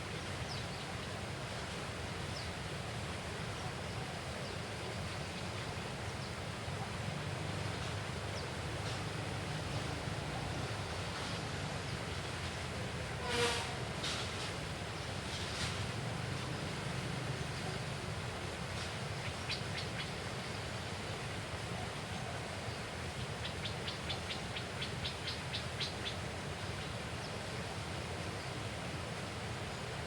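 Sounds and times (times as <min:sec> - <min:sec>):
outdoor background hiss: 0:00.0 - 0:30.0.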